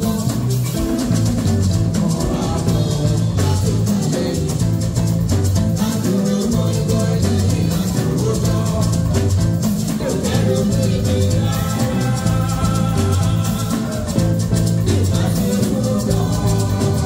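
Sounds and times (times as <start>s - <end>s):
live band music with singers: 0.0s - 17.0s.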